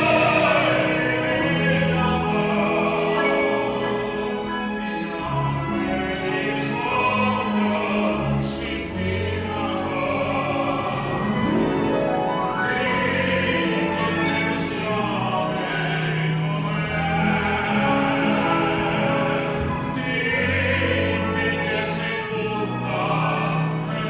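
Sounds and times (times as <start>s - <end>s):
instrumental accompaniment: 0.0s - 24.0s
opera-style singing: 0.0s - 24.0s.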